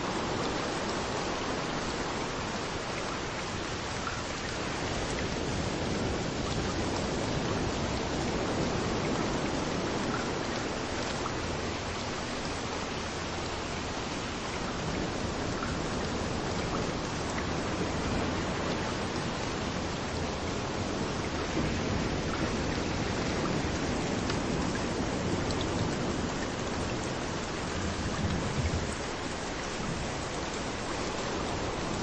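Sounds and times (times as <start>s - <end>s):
rain falling: 0.0s - 32.0s
waves washing on a beach: 0.0s - 32.0s.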